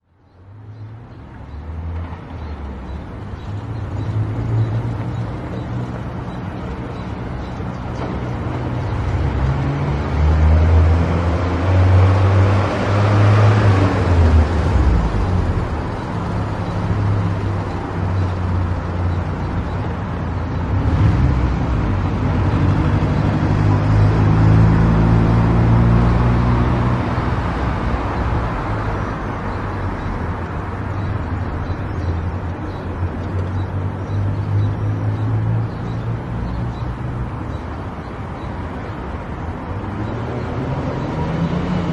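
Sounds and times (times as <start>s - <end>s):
road noise: 0.0s - 41.9s.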